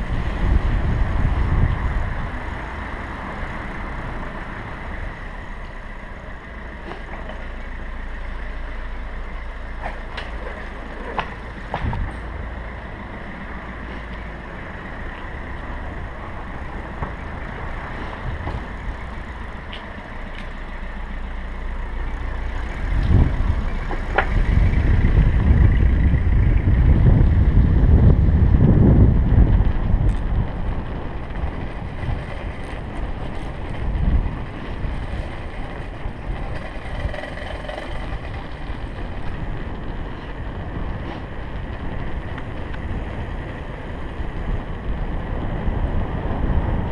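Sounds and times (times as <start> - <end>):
wind buffeting microphone: 0.0 - 5.6, 9.8 - 20.2, 21.9 - 46.9
bicycle rolling over cobblestones: 0.0 - 46.9.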